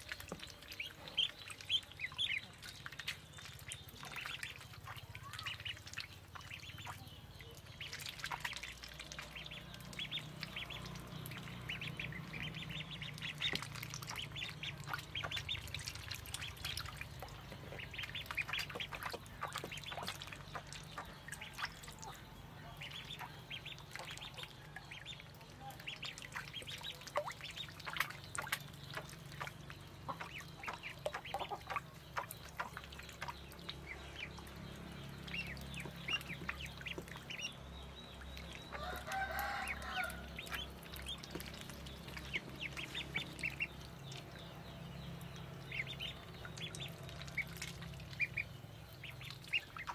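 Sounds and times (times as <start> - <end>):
ducklings peeping: 0.0 - 49.9.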